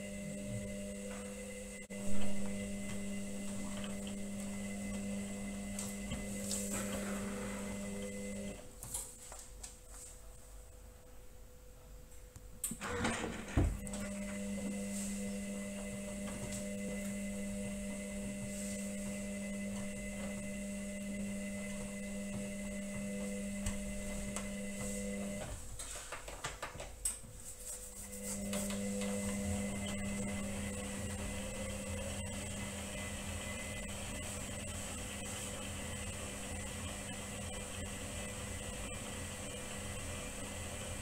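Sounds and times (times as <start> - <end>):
washing machine motor humming: 0.0 - 8.8, 12.6 - 26.0, 27.9 - 41.0.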